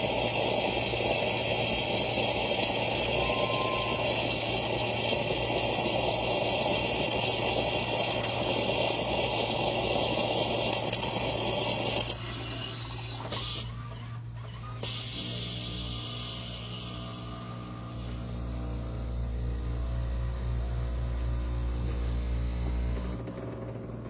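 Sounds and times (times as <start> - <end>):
coffee machine hum: 0.0 - 24.0
coffee machine rattling whir: 0.0 - 24.0.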